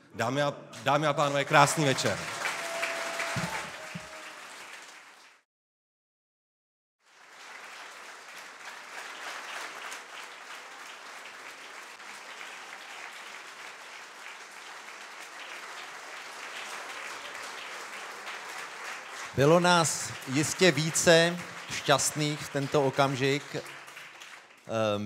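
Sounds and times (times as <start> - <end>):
audience applauding: 0.8 - 5.4, 7.0 - 25.0.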